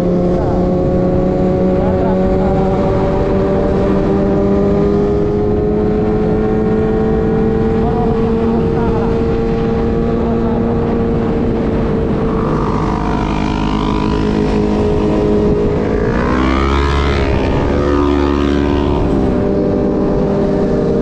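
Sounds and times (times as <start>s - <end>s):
motorcycle engine running: 0.0s - 21.0s
wind rumble: 0.0s - 21.0s.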